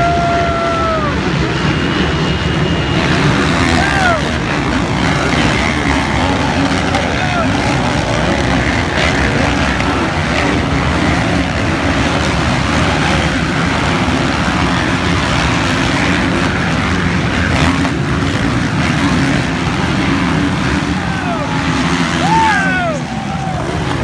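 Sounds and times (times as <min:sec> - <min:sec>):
dirt bike engines running: 0:00.0 - 0:24.0.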